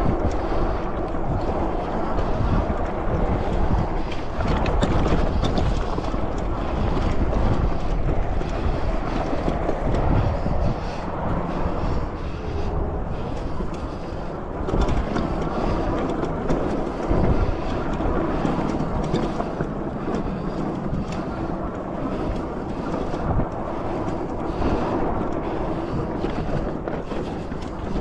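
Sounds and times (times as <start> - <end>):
tyres rumbling on dirt trail: 0.0 - 28.0
wind buffeting microphone: 0.0 - 28.0.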